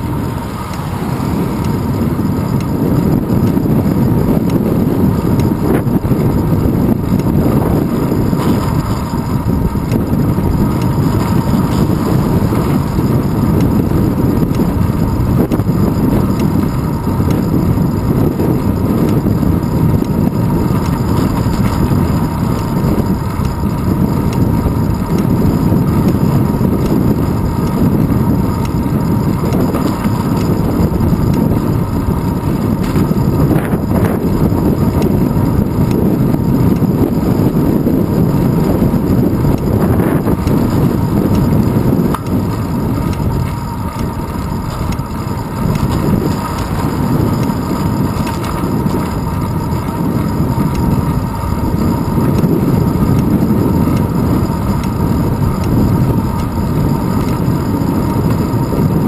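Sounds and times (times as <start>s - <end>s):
faint thin whine: 0.0s - 59.0s
road noise: 0.0s - 59.0s
wind rushing: 0.0s - 59.0s.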